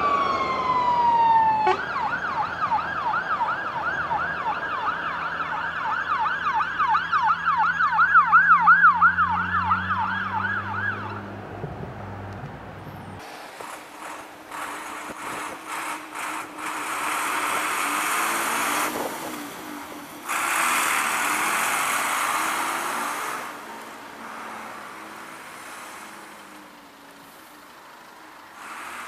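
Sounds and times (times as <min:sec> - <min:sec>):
fire engine driving past: 0:00.0 - 0:29.0.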